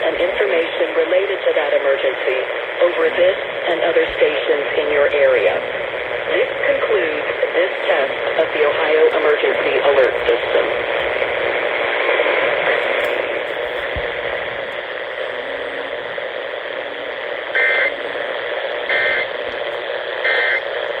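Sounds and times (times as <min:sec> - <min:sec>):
radio hiss and static: 0:00.0 - 0:21.0.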